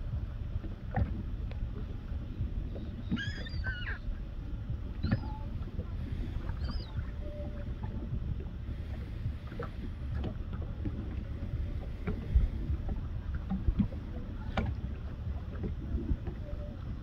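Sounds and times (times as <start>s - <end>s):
water lapping against a hull: 0.0s - 17.0s
wind buffeting microphone: 0.0s - 17.0s.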